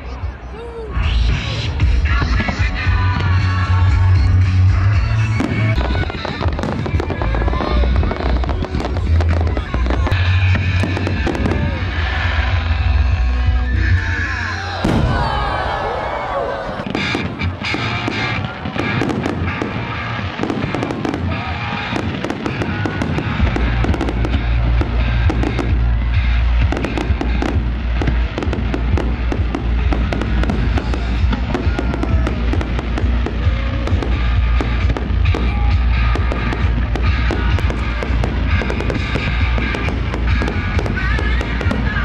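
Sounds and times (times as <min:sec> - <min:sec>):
fireworks bangs and crackles: 0:00.0 - 0:42.0
heavy low rumble: 0:00.0 - 0:42.0
music: 0:00.0 - 0:42.0.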